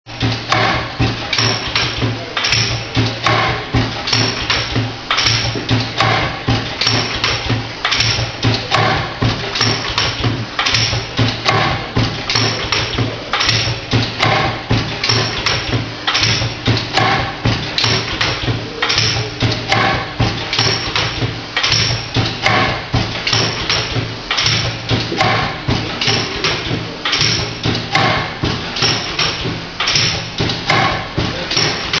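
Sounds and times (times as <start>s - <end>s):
steady low hum: 0.1s - 32.0s
air cylinders knocking: 0.2s - 32.0s.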